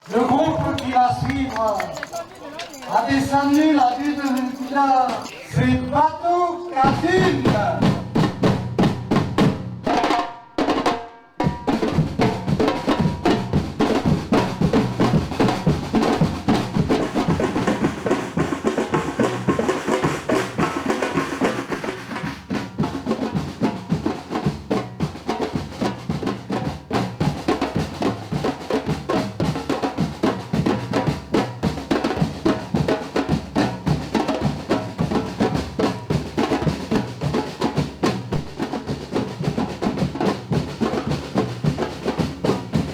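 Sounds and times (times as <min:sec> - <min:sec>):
percussion group drumming: 0:00.0 - 0:42.9.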